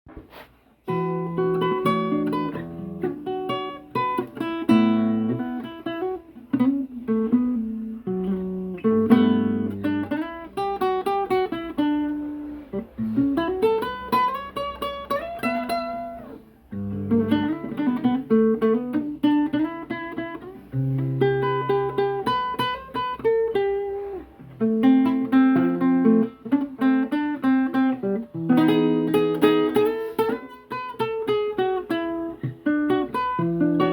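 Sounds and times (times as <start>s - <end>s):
solo acoustic guitar: 0.1s - 33.9s.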